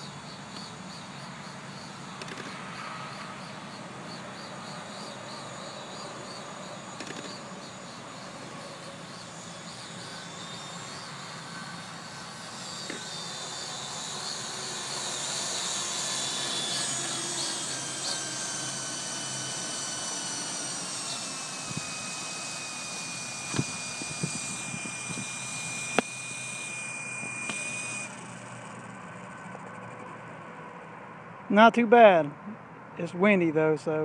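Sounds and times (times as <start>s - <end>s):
electric motor whining: 0.0s - 30.2s
rotor blades whirring: 0.0s - 30.9s.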